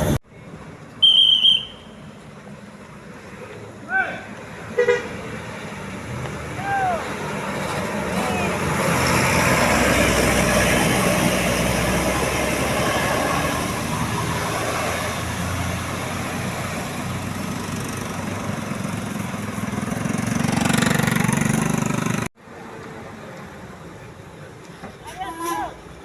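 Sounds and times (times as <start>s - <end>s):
bus engines rumbling: 0.0s - 26.0s
road noise: 0.0s - 26.0s.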